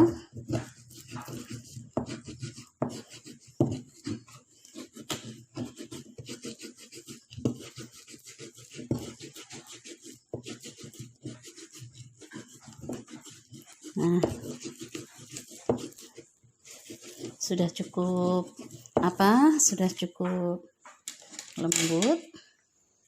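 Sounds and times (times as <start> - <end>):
pestle grinding in a mortar: 0.0 - 20.0.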